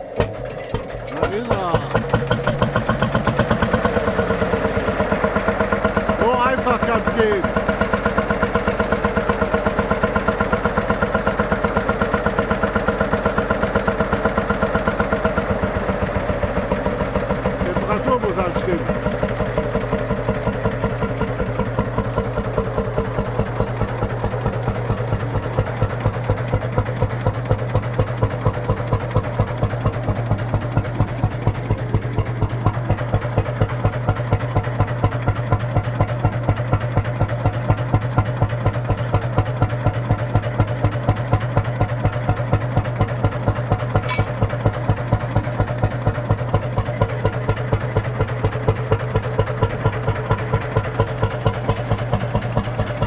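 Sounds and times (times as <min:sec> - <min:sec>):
two-stroke engine idling: 0:00.0 - 0:53.0.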